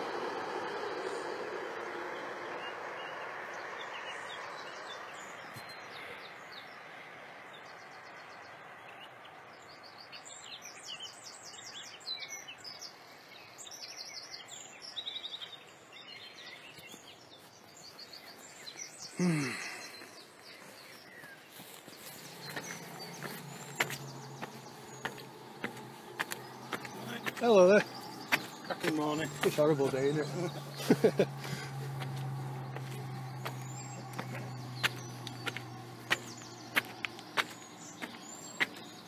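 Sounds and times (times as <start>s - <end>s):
small birds trilling and chirping: 0.0s - 39.0s.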